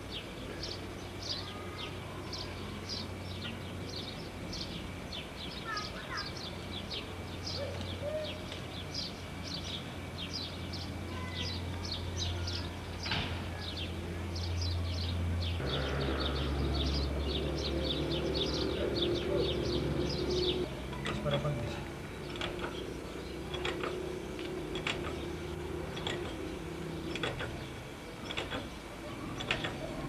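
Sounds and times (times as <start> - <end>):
low electrical hum: 0.0 - 30.0
small birds chirping: 0.0 - 30.0.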